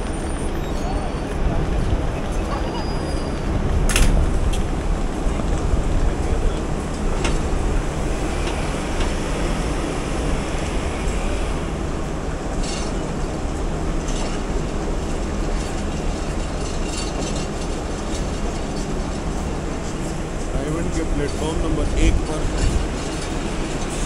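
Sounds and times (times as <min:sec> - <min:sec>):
train carriages rumbling: 0:00.0 - 0:24.0.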